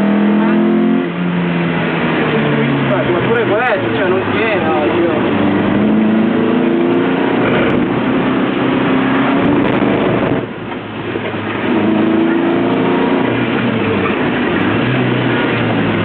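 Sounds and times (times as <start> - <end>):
car engine running hard: 0.0 - 16.0
wind and road noise: 0.0 - 16.0.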